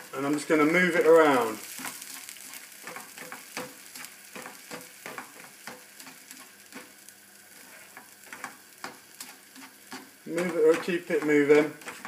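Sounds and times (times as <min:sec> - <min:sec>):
egg sizzling in a frying pan: 0:00.0 - 0:12.0
spatula scraping and knocking pan: 0:00.9 - 0:12.0.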